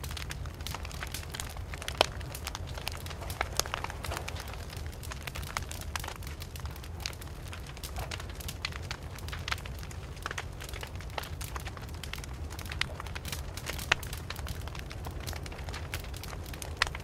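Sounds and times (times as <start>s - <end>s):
campfire crackling: 0.0s - 17.0s
low rumble of flames: 0.0s - 17.0s.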